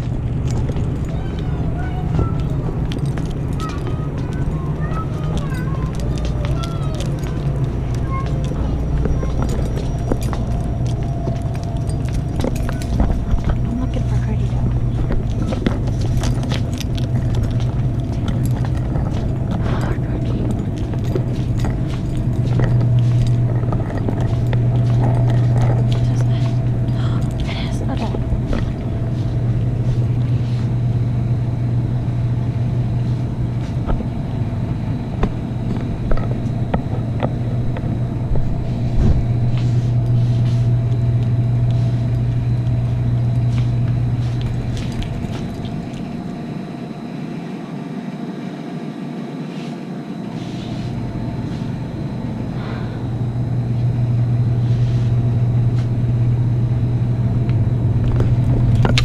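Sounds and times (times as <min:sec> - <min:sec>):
car engine and road rumble: 0:00.0 - 0:49.0, 0:50.1 - 0:59.0.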